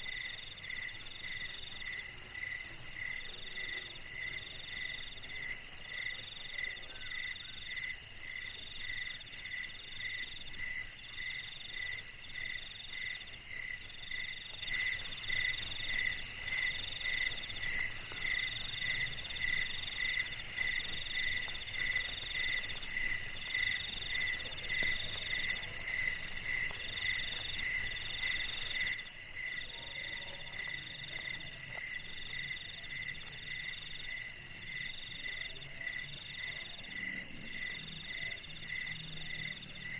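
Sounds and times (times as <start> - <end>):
low cricket chirp: 0.0 - 39.9
middle insect trill: 0.0 - 39.9.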